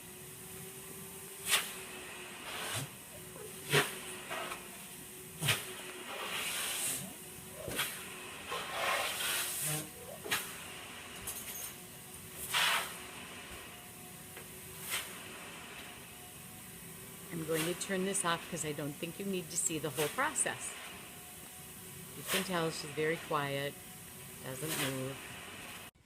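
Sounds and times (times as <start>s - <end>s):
vacuum hissing and humming: 0.0s - 26.0s.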